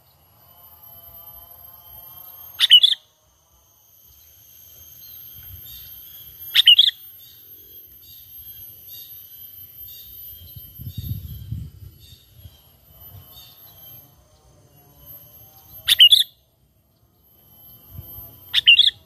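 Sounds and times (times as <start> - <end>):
faint high whine: 0.0 - 19.0
bird chirps: 2.0 - 3.1, 4.1 - 19.0.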